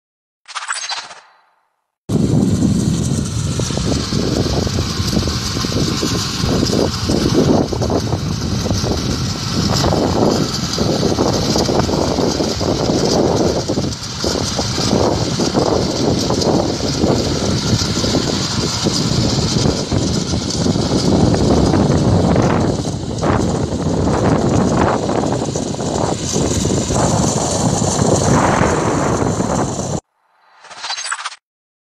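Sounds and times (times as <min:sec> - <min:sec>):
tiller petrol engine running: 0:02.1 - 0:30.0.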